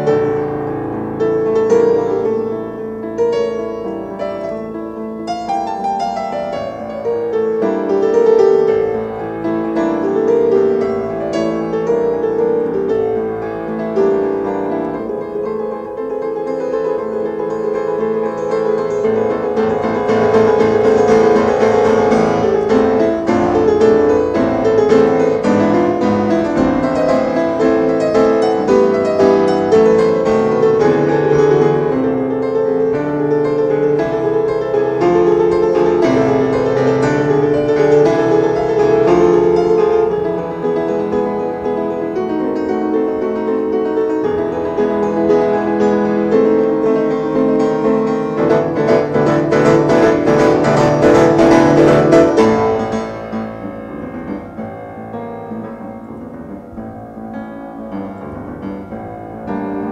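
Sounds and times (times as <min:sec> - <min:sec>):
solo classical piano: 0:00.0 - 0:59.9.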